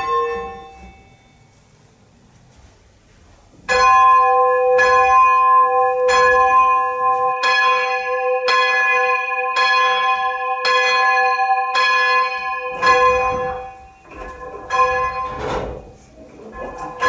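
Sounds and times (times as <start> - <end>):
church bell ringing: 0.0 - 1.7, 3.6 - 17.0.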